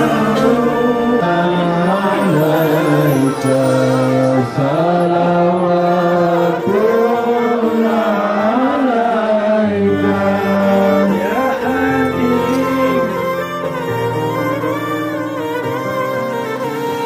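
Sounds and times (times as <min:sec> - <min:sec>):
slow melody with held notes: 0:00.0 - 0:17.0.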